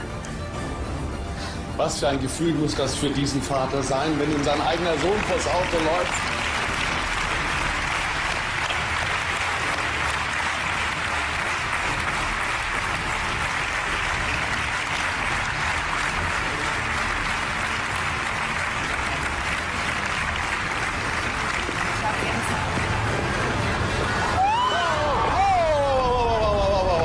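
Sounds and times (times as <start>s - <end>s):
audience applauding: 2.4s - 27.0s.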